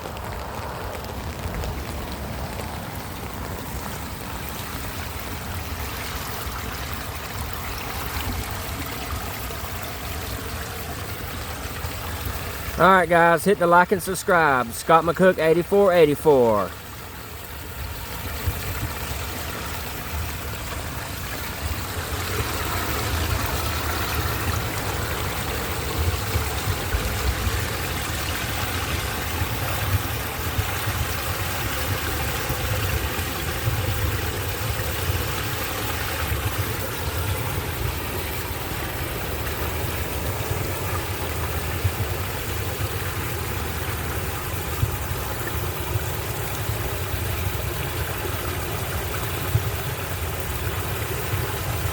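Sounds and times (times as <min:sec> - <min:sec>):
water rushing down storm drain: 0:00.0 - 0:51.9.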